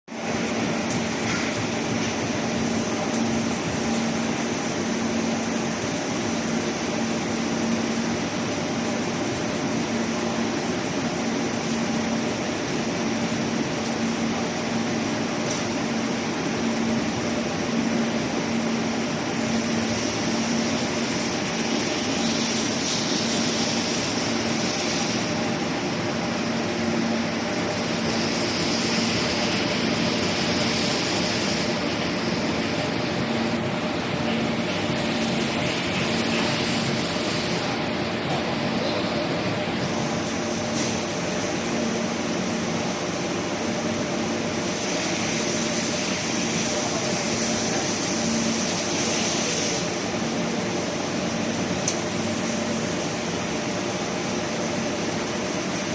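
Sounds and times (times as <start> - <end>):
fan-like hiss: 0.2 - 55.9.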